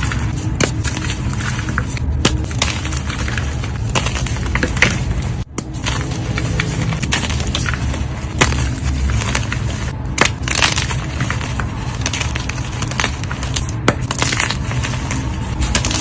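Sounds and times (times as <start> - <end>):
chalk blocks crunching: 0.0 - 16.0.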